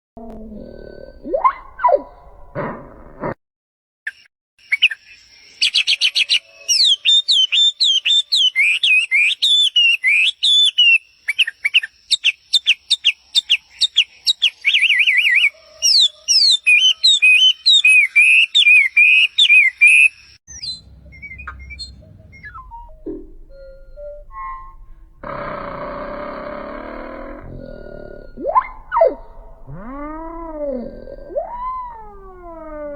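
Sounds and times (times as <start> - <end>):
songbird singing: 4.1 - 32.9.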